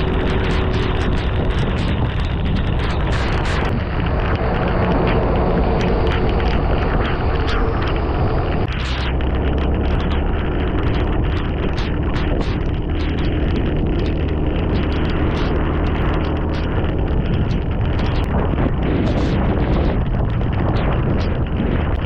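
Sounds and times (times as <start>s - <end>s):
heavy rain pouring: 0.0s - 22.0s
low rumble: 0.0s - 22.0s
rain drops hitting close by: 0.0s - 22.0s.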